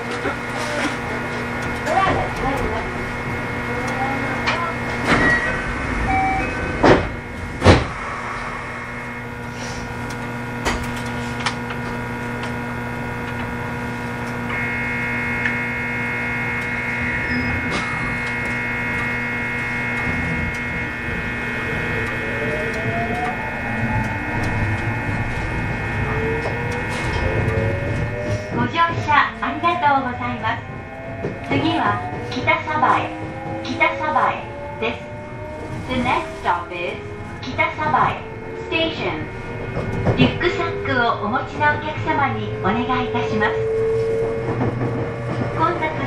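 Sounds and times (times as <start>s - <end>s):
electrical tones: 0.0s - 46.0s
traction motor whine rising: 0.0s - 46.0s
train low rumble: 0.0s - 46.0s.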